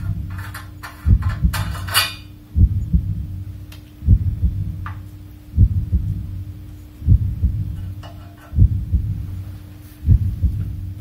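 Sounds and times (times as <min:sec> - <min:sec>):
pulsing beat with low thumps: 0:00.0 - 0:01.8, 0:02.4 - 0:11.0
steady held drone: 0:00.0 - 0:11.0.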